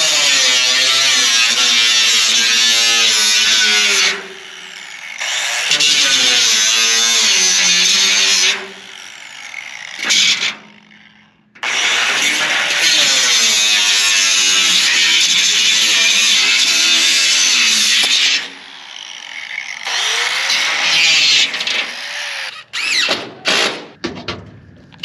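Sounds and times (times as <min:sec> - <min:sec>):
angle grinder cutting metal: 0:00.0 - 0:24.0.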